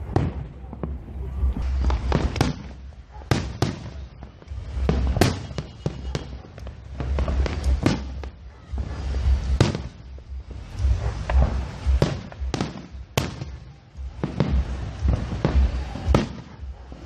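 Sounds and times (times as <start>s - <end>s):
deep rolling firework booms: 0.0s - 17.0s
firework bangs and crackles: 0.0s - 17.0s.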